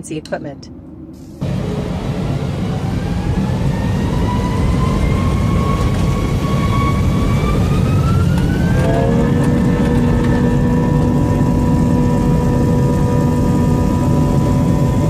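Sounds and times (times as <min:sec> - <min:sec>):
jet engines spooling up: 0:01.1 - 0:15.0.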